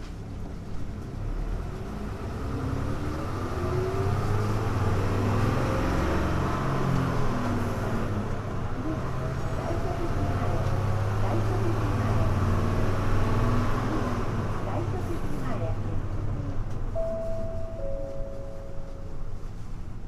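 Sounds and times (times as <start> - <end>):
bus diesel engine accelerating: 0.0 - 20.0.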